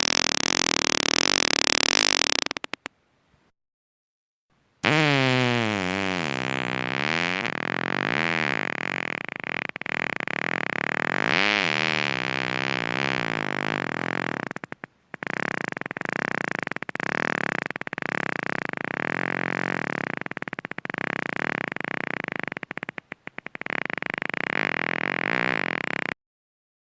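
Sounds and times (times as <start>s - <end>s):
electronic fart noise: 0.0s - 2.8s, 4.8s - 26.2s.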